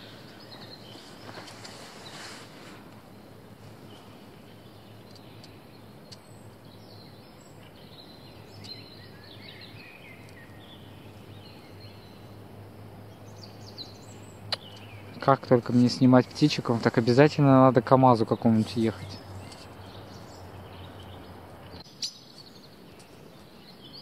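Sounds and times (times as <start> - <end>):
distant truck engine hum: 0.0 - 21.9
faint birdsong: 0.0 - 24.0.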